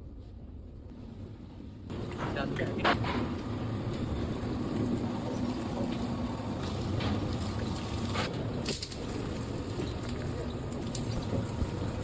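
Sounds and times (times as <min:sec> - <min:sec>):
factory machinery humming: 0:01.0 - 0:12.0.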